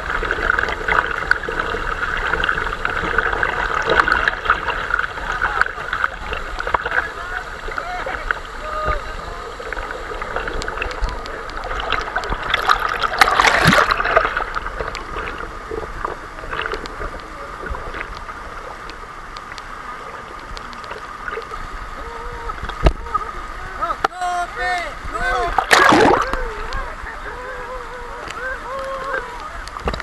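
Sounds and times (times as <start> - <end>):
running water rushing: 0.0 - 30.0
water splashing: 0.0 - 30.0.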